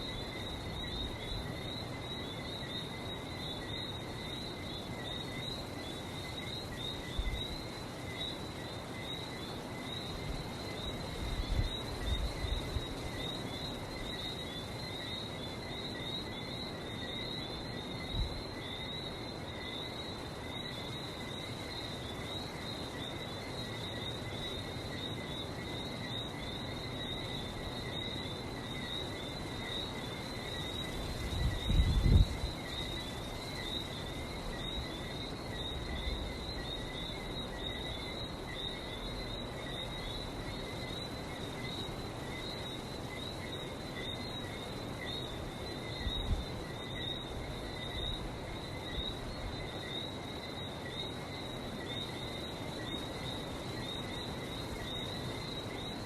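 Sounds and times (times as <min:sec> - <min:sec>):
background noise: 0:00.0 - 0:56.0.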